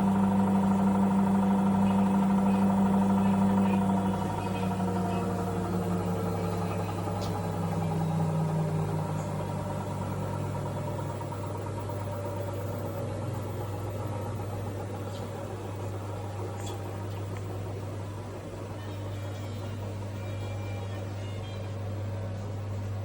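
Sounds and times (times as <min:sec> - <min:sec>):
motor whine falling in pitch: 0:00.0 - 0:22.3
washing machine hum: 0:00.0 - 0:23.0.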